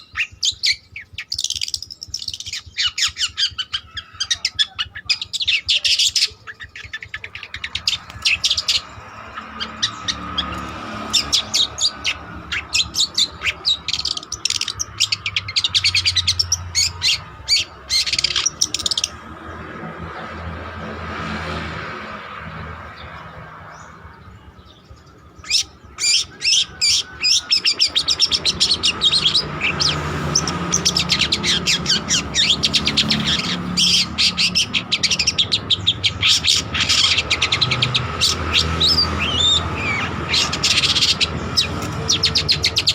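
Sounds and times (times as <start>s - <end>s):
shrike chattering song: 0.0s - 20.9s, 22.0s - 42.9s.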